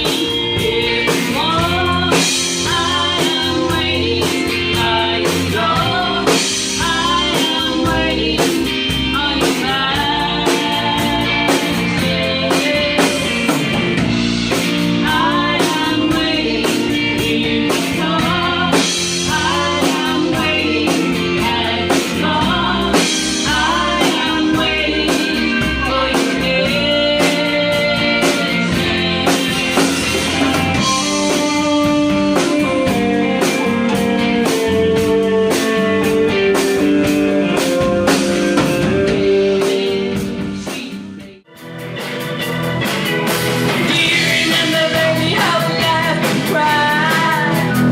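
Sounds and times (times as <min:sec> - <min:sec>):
person singing: 0:00.0 - 0:41.6, 0:43.7 - 0:47.9
drum kit: 0:00.0 - 0:47.9
guitar: 0:00.0 - 0:47.9.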